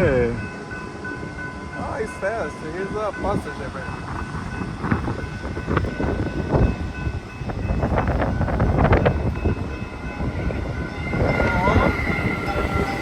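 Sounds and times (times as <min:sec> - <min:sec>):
passing train running noise: 0:00.0 - 0:13.0.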